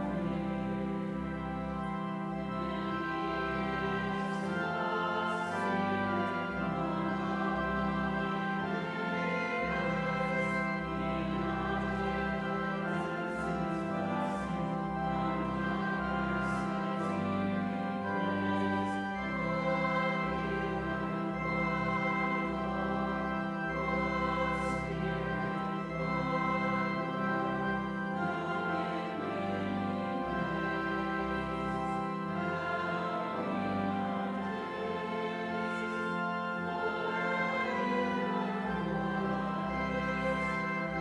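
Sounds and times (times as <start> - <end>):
congregation singing a hymn: 0.0 - 41.0
organ playing: 0.0 - 41.0.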